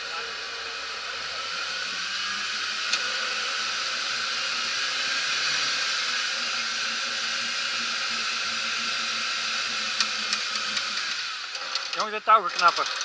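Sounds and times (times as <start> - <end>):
winch motor whining: 0.0 - 13.0.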